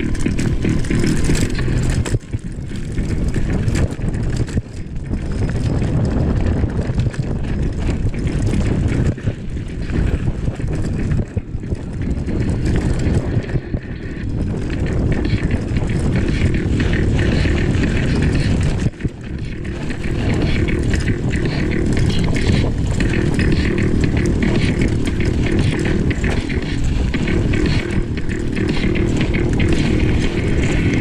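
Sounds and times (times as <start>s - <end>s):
bike knocks and rattles: 0.0s - 31.0s
wind buffeting microphone: 0.0s - 31.0s.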